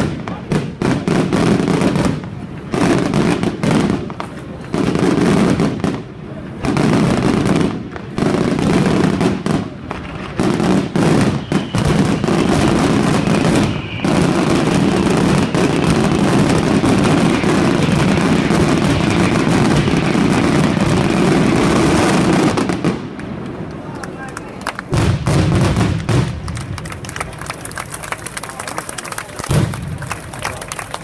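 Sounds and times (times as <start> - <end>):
fireworks banging and crackling: 0.0 - 31.0.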